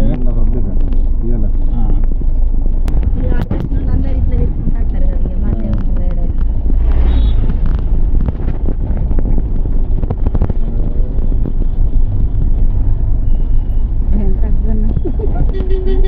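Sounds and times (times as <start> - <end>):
vehicle rumble: 0.0 - 16.0
wind buffeting microphone: 0.0 - 16.0.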